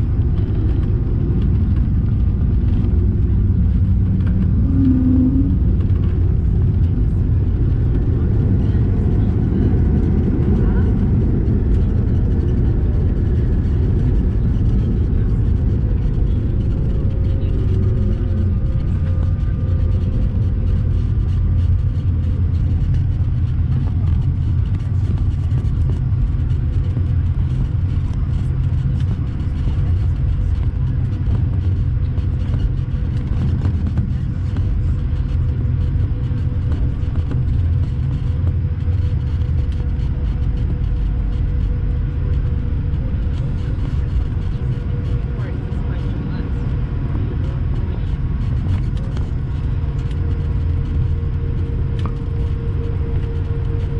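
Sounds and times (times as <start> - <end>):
airplane cabin rumble: 0.0 - 53.9
faint turbofan whine: 0.0 - 53.9.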